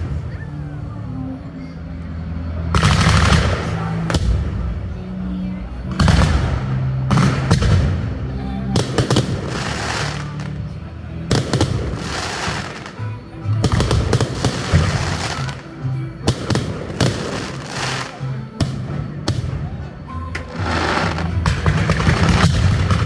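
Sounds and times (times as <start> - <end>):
music: 0.0 - 23.0
fireworks bangs and crackles: 2.7 - 4.9, 5.6 - 23.0.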